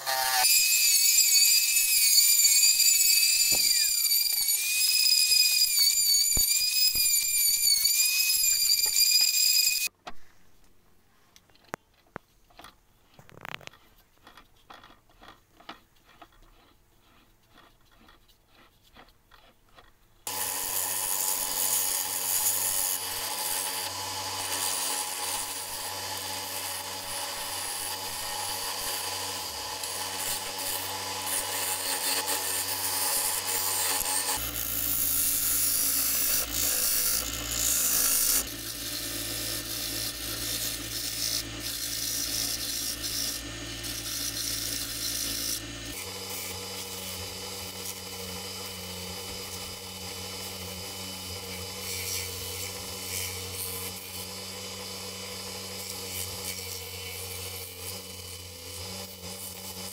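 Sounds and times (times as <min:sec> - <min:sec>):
chisel scraping spinning wood: 0:00.0 - 0:09.9, 0:11.5 - 0:59.9
wood lathe humming: 0:00.0 - 0:09.9, 0:20.3 - 0:59.9.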